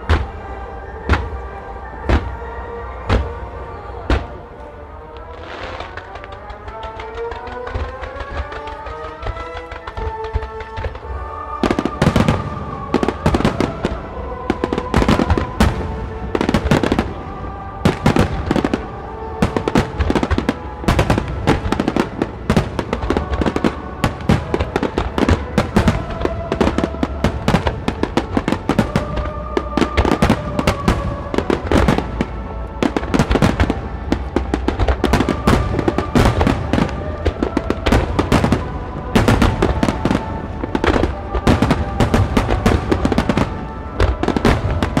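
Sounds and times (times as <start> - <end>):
fireworks bursting: 0.0 - 45.0
music: 0.0 - 45.0.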